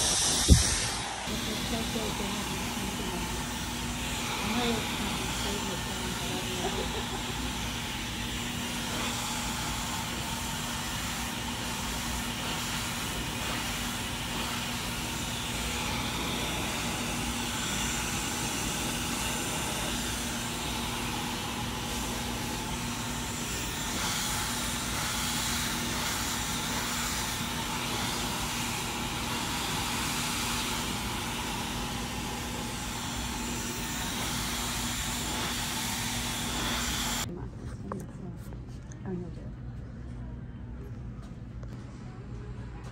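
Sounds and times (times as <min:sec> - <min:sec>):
hair dryer blowing air: 0:00.0 - 0:37.3.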